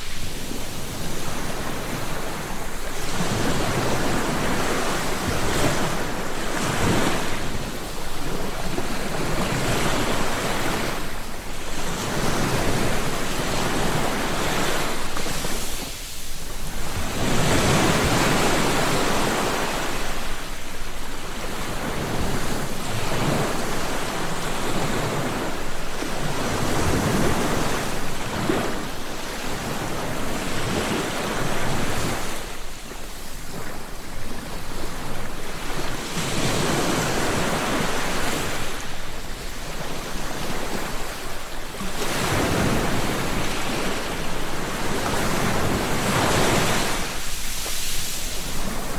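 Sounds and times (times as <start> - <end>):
ocean waves breaking on shore: 0.0 - 48.9
wind noise: 0.0 - 48.9.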